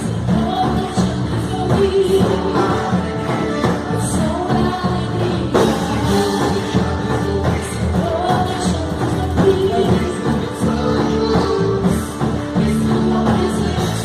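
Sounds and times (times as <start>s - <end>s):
drum kit beat: 0.0s - 14.0s
live band playing upbeat song: 0.0s - 14.0s
person singing: 0.0s - 14.0s.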